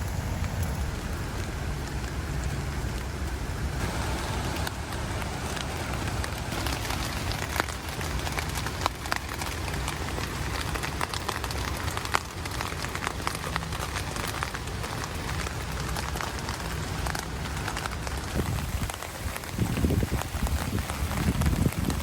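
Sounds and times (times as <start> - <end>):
low steady rumble: 0.0 - 22.0
rain drops ticking on tent fabric: 0.0 - 22.0
steady rain hiss: 0.0 - 22.0.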